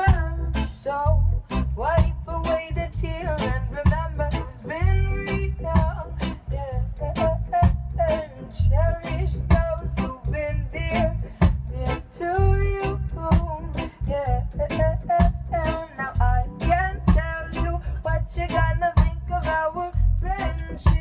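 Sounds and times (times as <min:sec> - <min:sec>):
bending lead melody: 0:00.0 - 0:21.0
pulsing bass line: 0:00.0 - 0:21.0
reggae band playing live: 0:00.0 - 0:21.0.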